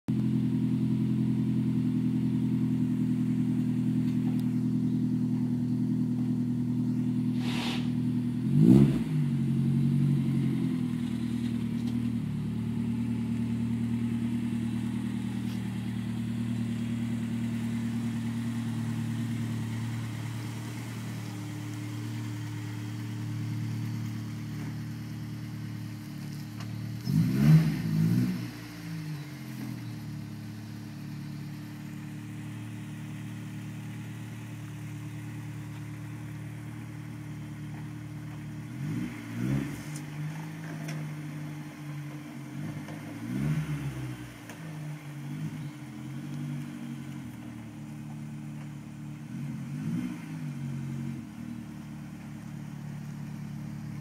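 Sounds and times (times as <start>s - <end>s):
car engine idling: 0.1s - 54.0s.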